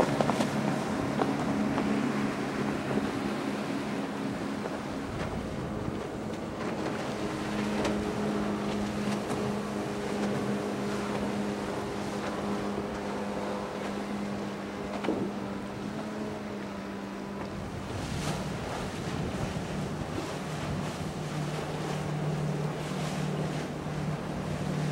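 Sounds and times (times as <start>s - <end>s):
wind on microphone: 0.0s - 16.5s, 17.4s - 24.9s
outboard motor running: 0.0s - 24.9s.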